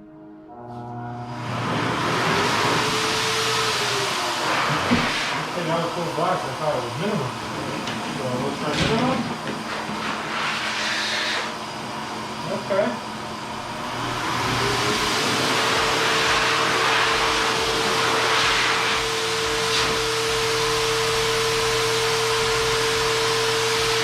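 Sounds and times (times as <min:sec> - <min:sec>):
blower motor whining: 0:00.0 - 0:24.0.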